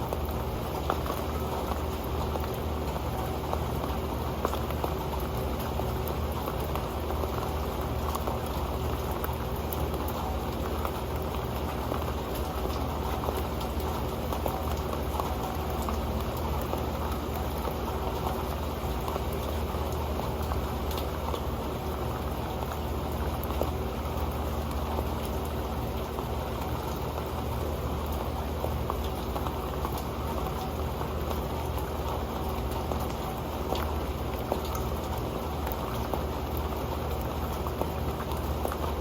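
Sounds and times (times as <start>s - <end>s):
rain pattering on a metal pan: 0.0s - 39.0s.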